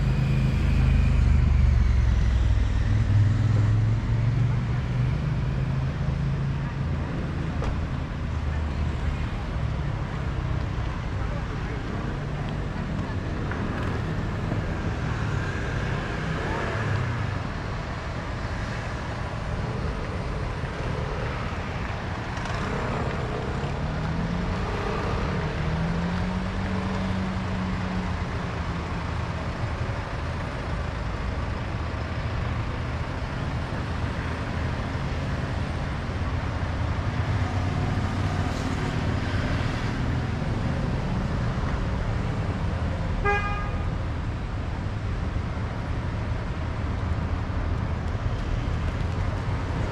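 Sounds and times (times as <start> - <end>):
street traffic noise: 0.0 - 49.9.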